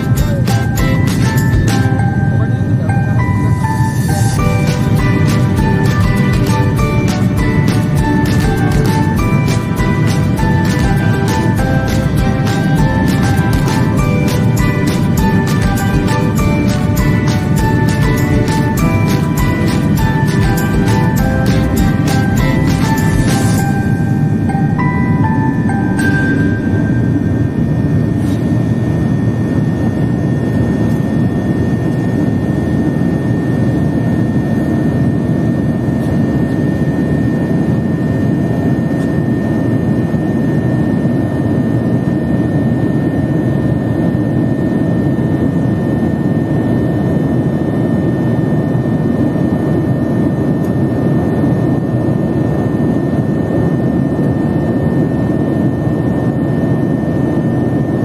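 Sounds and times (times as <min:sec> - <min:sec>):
faint high whine: 0:00.0 - 0:58.0
jet engine and airflow rush: 0:00.0 - 0:58.0.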